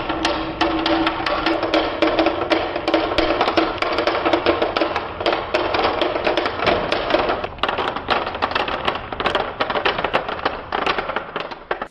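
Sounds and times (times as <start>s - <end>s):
marbles clattering down wooden track: 0.0s - 11.9s.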